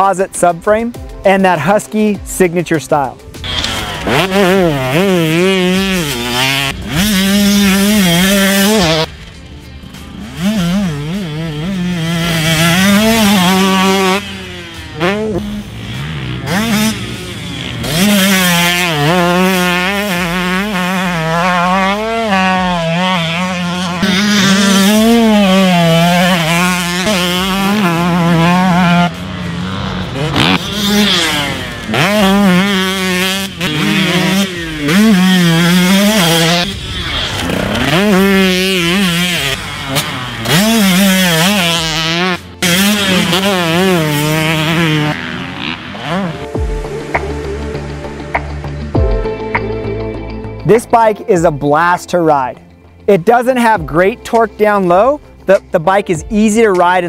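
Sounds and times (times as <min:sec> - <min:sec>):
two-stroke motorcycle engine revving: 0:03.0 - 0:49.8.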